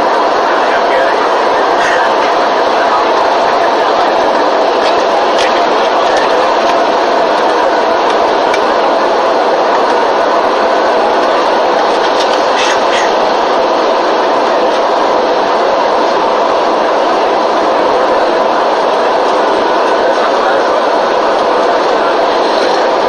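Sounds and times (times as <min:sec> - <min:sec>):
airliner cabin engine drone: 0:00.0 - 0:23.0.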